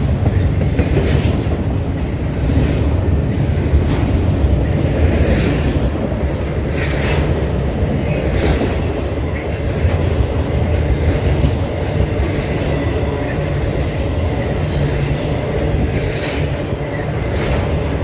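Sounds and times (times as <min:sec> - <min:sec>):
railroad cars rumbling on track: 0:00.0 - 0:18.0.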